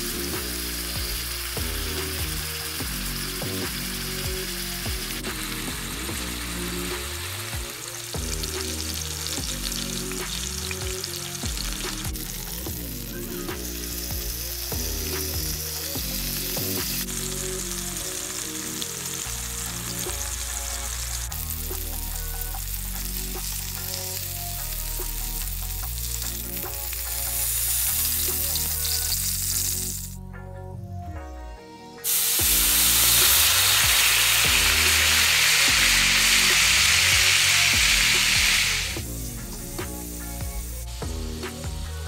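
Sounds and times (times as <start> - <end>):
chicken sizzling in frying pan: 0.0 - 30.2, 32.0 - 41.9
background music: 0.0 - 42.0.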